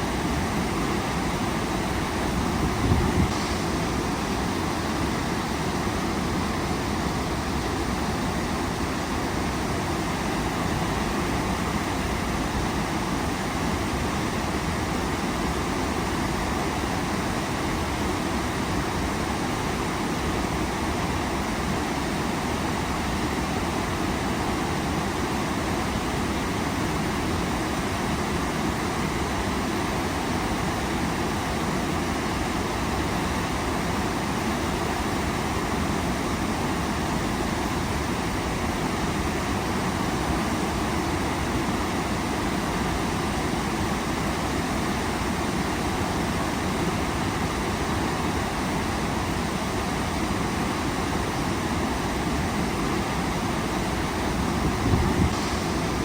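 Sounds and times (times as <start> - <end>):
waterfall rushing: 0.0 - 21.8, 26.8 - 56.0.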